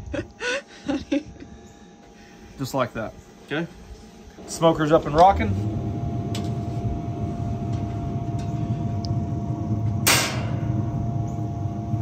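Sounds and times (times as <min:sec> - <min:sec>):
fan whine: 0:00.0 - 0:12.0
smoker humming: 0:00.0 - 0:12.0.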